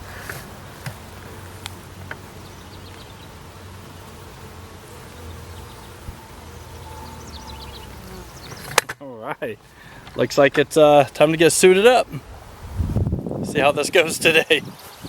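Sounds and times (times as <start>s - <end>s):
bees buzzing: 0.0s - 12.9s.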